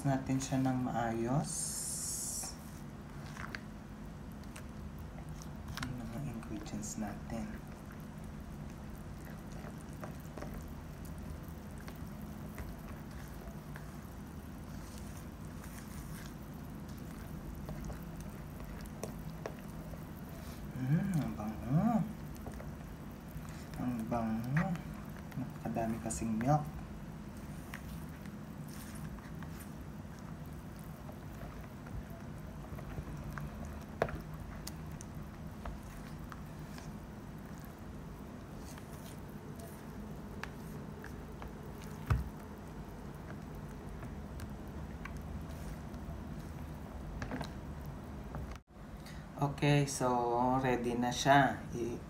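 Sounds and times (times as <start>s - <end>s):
spatula mixing wet batter: 0.0s - 48.8s
steady low hum: 0.0s - 52.0s.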